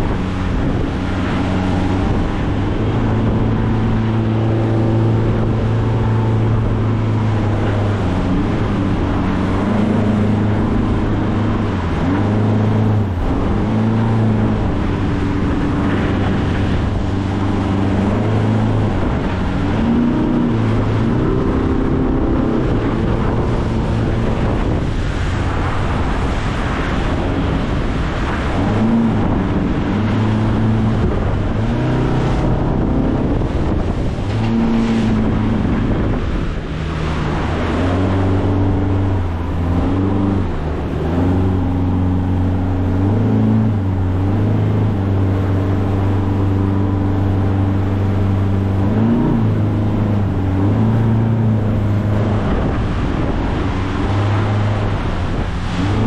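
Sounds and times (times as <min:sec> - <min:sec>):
boat engine revving: 0:00.0 - 0:56.0
water rushing around hull: 0:00.0 - 0:56.0
wind: 0:00.0 - 0:56.0.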